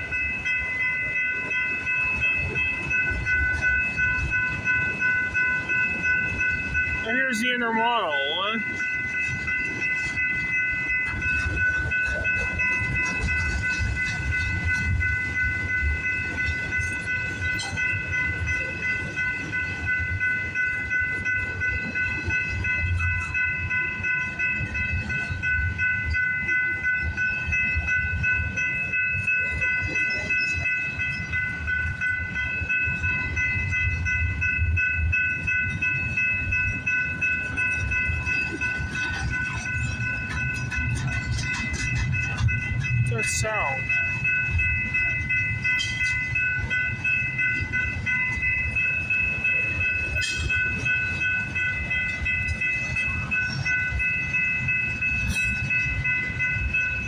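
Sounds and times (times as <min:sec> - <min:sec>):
freight train rumbling past: 0:00.0 - 0:57.0
high-pitched ringing tone: 0:00.0 - 0:57.0.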